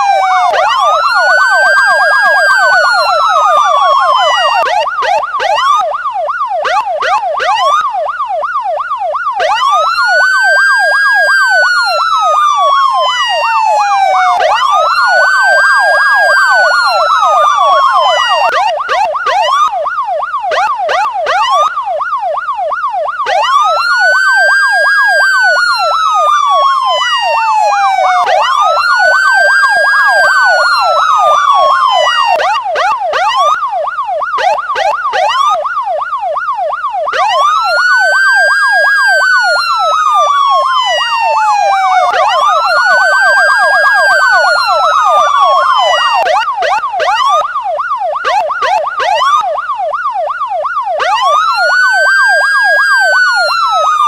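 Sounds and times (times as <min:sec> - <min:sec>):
police siren wail: 0:00.0 - 0:54.0
police siren yelp: 0:00.0 - 0:54.0.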